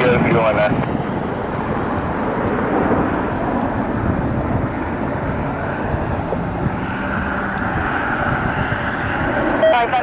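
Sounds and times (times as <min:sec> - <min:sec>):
jet aircraft engines rumbling: 0:00.0 - 0:10.0.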